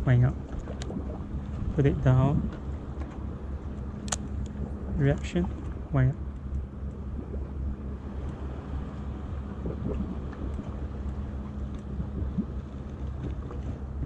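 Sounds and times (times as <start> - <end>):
boat engine idling: 0.0 - 14.0
wind rumbling on microphone: 0.0 - 14.0.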